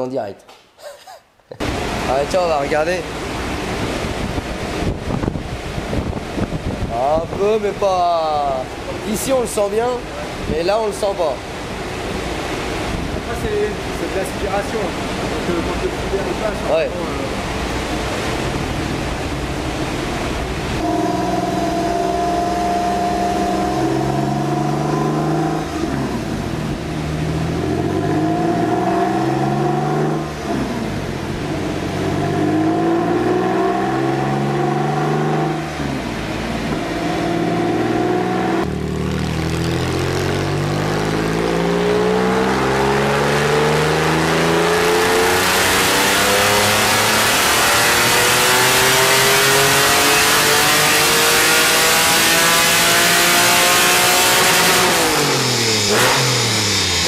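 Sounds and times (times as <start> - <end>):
car engine revving at full throttle: 1.6 - 57.0
rush of noise: 1.6 - 57.0.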